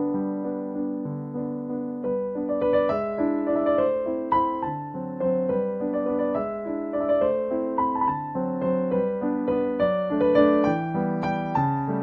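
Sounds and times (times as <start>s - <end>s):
gentle keyboard music: 0.0s - 12.0s.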